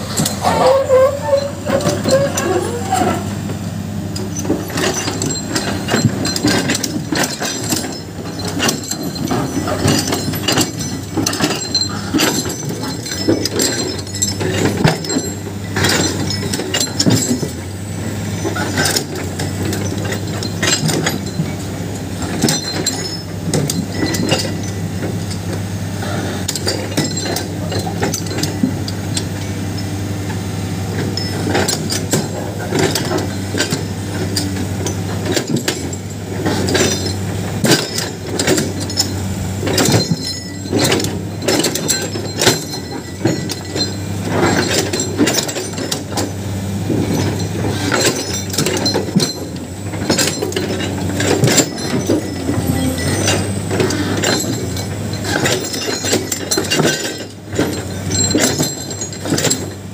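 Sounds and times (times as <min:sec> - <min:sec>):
excavator diesel engine: 0:00.0 - 0:59.9
rock clinking against metal bucket: 0:04.1 - 0:25.7, 0:31.0 - 0:59.9.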